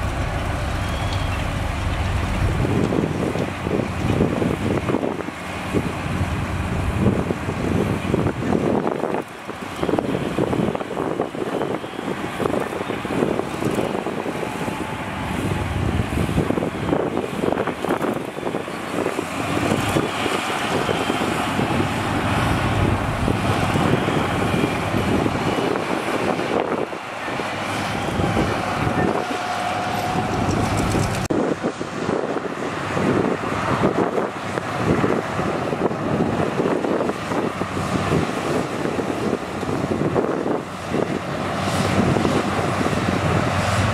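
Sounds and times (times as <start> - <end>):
heavy diesel machinery running: 0.0 - 43.9.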